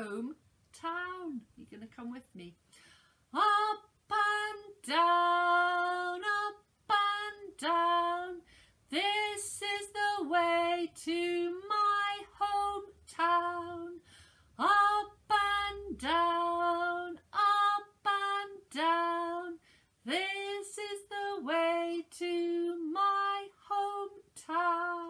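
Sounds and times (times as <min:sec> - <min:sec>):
woman singing unaccompanied: 0:00.0 - 0:01.4, 0:03.3 - 0:14.0, 0:14.6 - 0:25.0.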